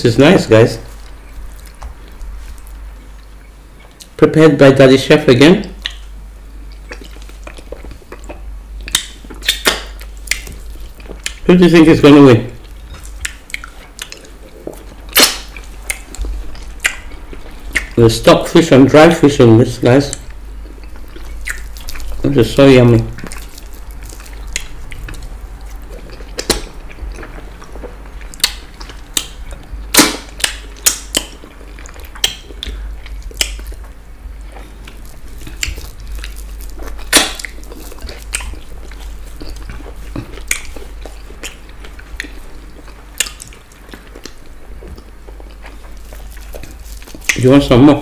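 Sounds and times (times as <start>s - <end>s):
low steady hum: 0.0s - 48.0s
chewing with wet smacks: 0.8s - 4.2s, 5.6s - 18.0s, 20.1s - 47.6s.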